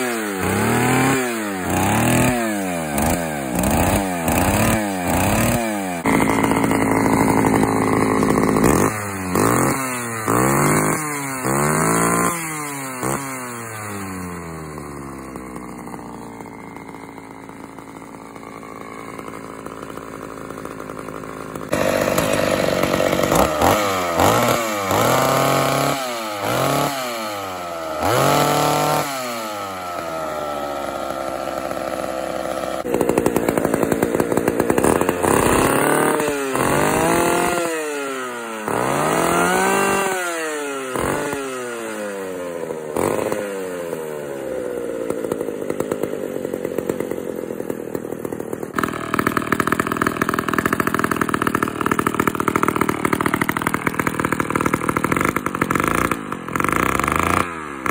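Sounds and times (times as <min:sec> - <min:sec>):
chainsaw revving and idling: 0:00.0 - 0:57.9
chainsaw running steadily: 0:00.0 - 0:57.9.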